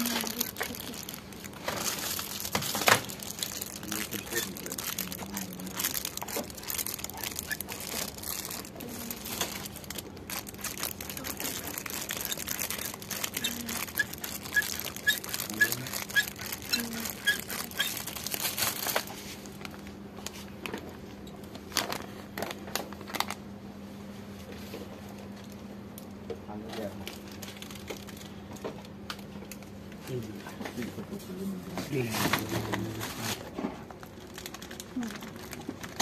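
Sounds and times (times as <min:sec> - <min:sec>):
plastic packaging crinkling: 0:00.0 - 0:20.9, 0:21.5 - 0:23.4, 0:26.8 - 0:29.8, 0:31.9 - 0:36.0
faint steady hum: 0:00.0 - 0:36.0.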